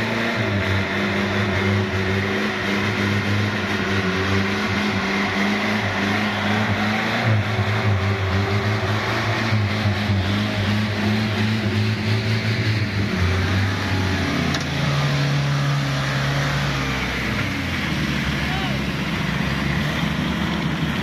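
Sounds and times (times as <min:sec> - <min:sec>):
vehicle engines labouring: 0:00.0 - 0:21.0.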